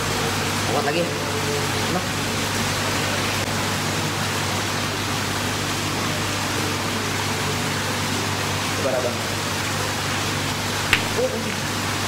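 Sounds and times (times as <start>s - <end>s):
indoor swimming pool ambience: 0.0s - 12.0s.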